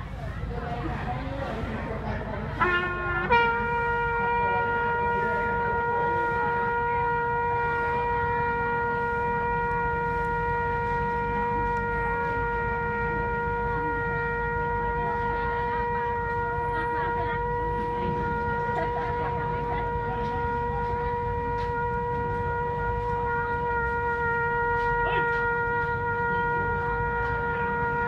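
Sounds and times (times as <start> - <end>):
trumpet holding long note: 1.2 - 28.0.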